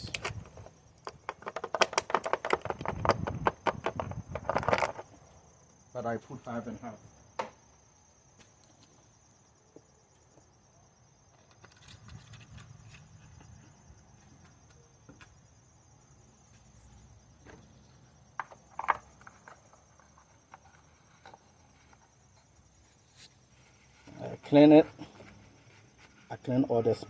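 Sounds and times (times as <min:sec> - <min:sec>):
high-pitched insect trill: 0:00.0 - 0:27.0.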